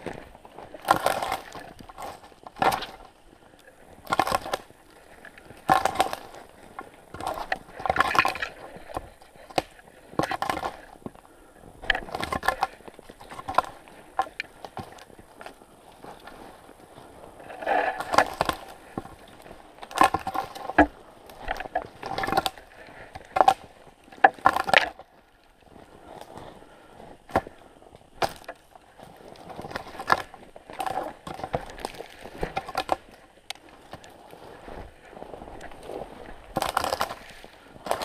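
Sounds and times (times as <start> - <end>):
footsteps crunching in snow: 0.0 - 22.9, 25.0 - 38.0
twigs crackling: 0.0 - 38.0.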